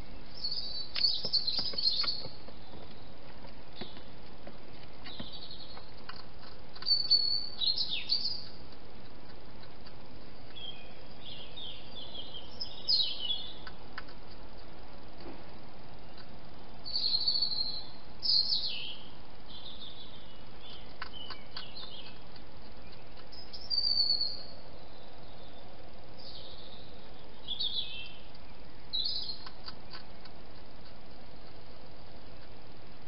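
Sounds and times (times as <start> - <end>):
birds chirping: 0.0 - 33.0
microphone hiss: 0.0 - 33.0.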